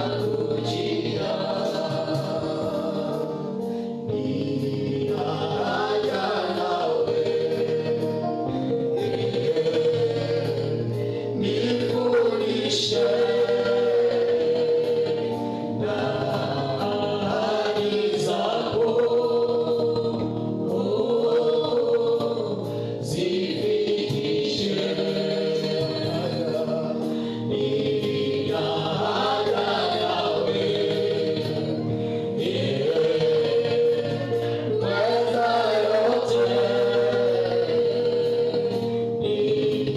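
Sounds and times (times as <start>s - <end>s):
group singing gospel song: 0.0s - 39.9s.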